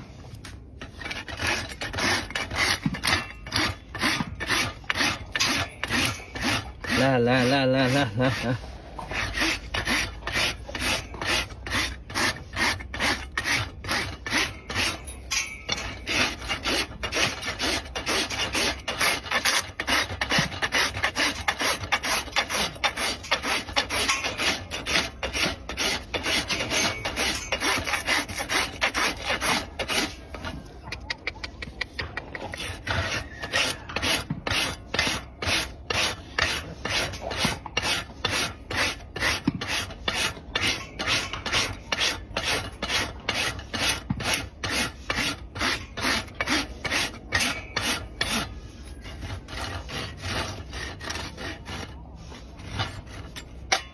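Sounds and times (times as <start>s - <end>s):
rasp filing a hoof: 0.0s - 53.9s.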